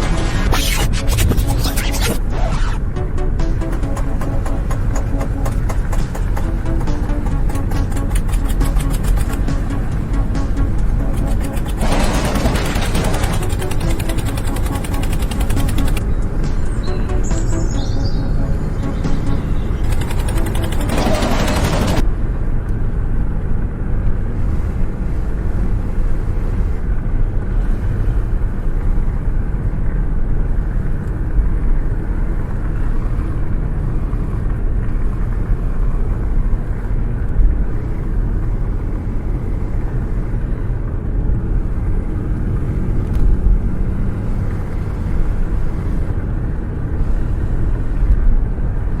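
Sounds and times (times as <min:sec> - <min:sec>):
small engine rumbling: 0:00.0 - 0:49.0.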